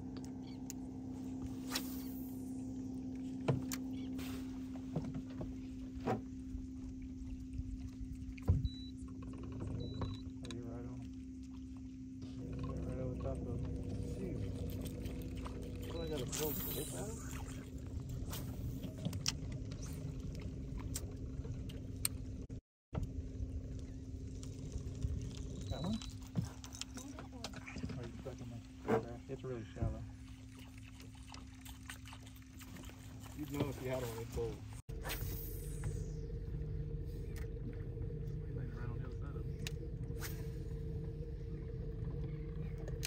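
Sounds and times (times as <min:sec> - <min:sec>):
boat motor hum: 0:00.0 - 0:43.0
water lapping at hull: 0:00.0 - 0:43.0.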